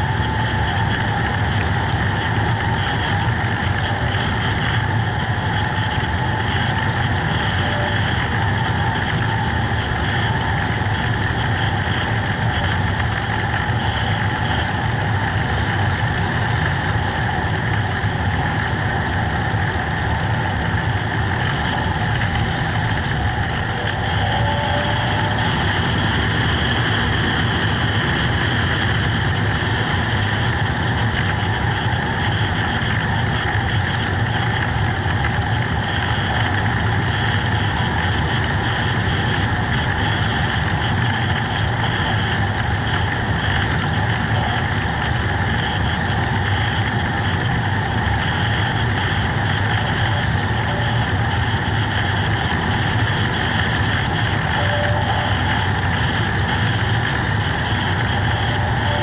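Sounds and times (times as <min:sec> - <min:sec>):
model plane motor whine: 0:00.0 - 0:59.0.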